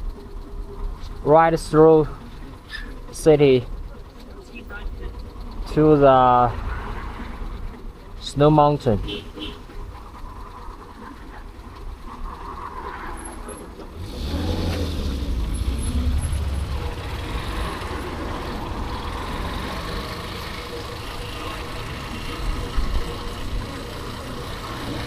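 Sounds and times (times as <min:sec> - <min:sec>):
motorbike riding noise: 0:00.0 - 0:25.0
road traffic: 0:00.0 - 0:25.0.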